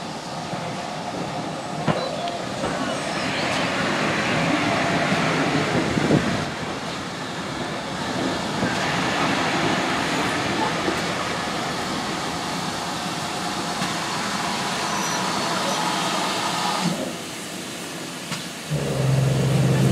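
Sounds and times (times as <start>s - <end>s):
train wheels on rail: 0.0s - 19.9s.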